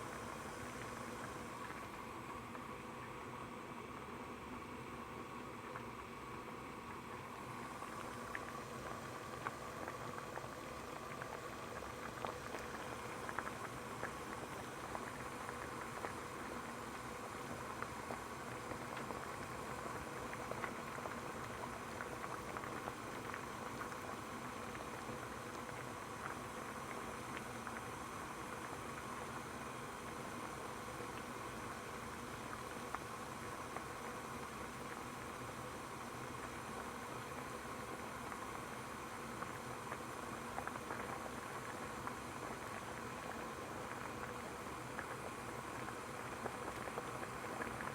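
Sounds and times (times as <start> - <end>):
water boiling: 0.0 - 47.9.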